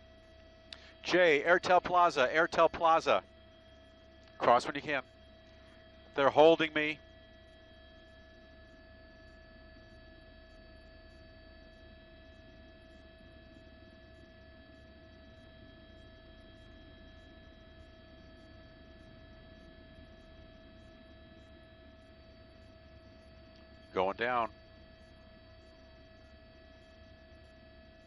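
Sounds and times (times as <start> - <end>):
faint electrical hum: 0.0 - 11.4, 12.4 - 28.0.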